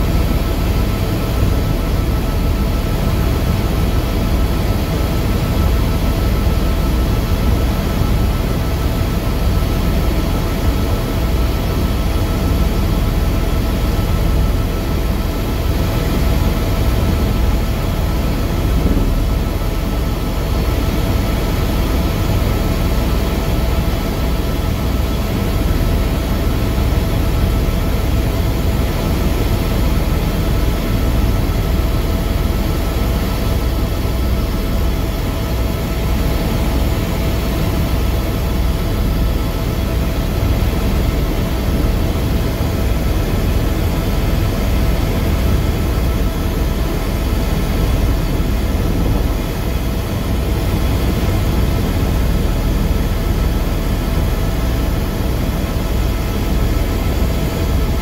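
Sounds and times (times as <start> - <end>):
faint steady whine: 0.0 - 58.0
helicopter rotor rumble: 0.0 - 58.0.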